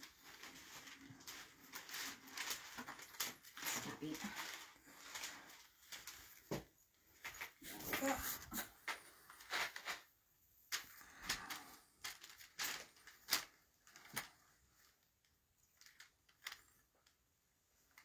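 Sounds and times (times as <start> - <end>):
fabric rustling: 0.0 - 16.7.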